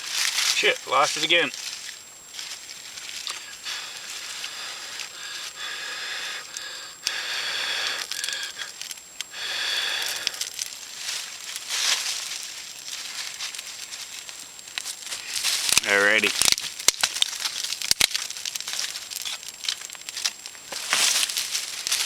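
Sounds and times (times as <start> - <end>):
dry leaves rustling: 0.0 - 6.9, 7.8 - 22.0
sharp crackles: 0.0 - 22.0.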